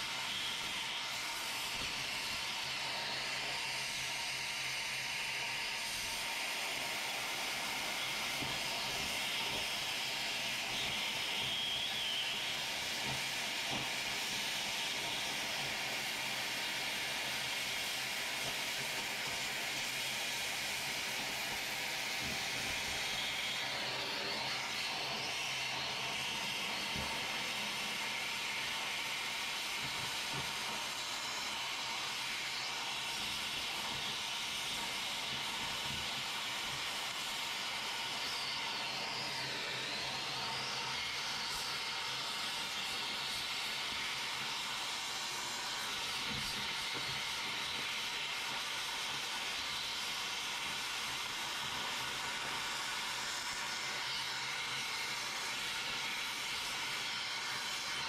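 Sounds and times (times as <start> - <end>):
cutting torch hissing: 0.0 - 58.0.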